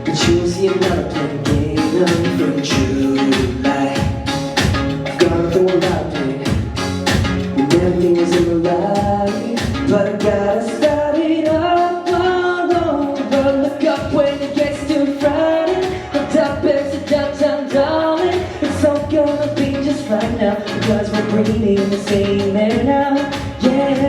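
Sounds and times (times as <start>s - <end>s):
pop song with singing: 0.0s - 24.0s
steady drum beat: 0.0s - 24.0s.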